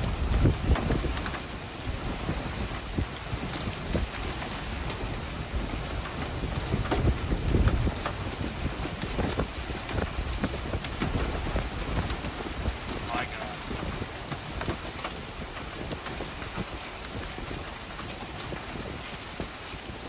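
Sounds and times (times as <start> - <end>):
heavy rain hiss: 0.0 - 20.0
hailstones clicking on metal: 2.4 - 20.0.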